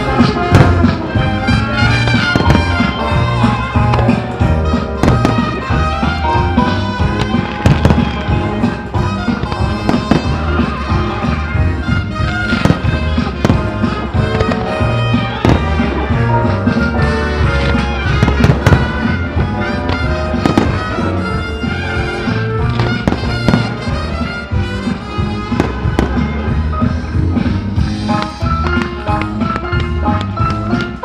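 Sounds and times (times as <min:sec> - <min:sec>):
loud music: 0:00.0 - 0:31.0.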